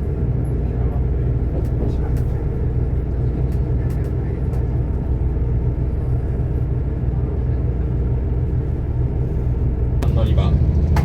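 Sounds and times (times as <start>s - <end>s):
train engine humming: 0.0s - 11.0s.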